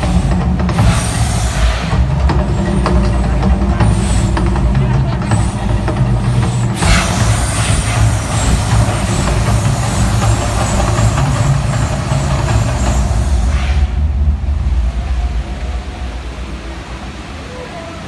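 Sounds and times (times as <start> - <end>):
deep loud rumble: 0.0 - 18.0
rushing hiss: 0.0 - 18.0.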